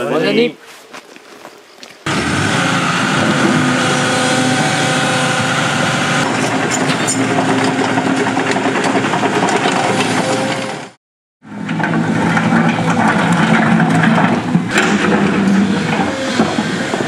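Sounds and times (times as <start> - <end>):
excavator diesel engine running: 2.1 - 17.0
hydraulic whining tones: 2.1 - 17.0.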